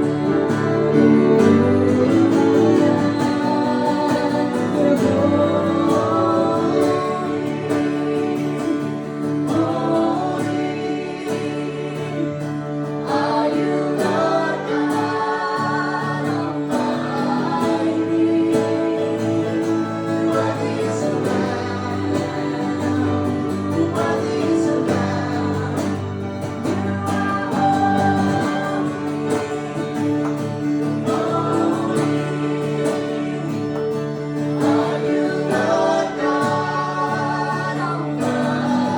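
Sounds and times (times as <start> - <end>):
strummed acoustic guitar: 0.0 - 38.9
voices singing worship song: 0.0 - 38.9.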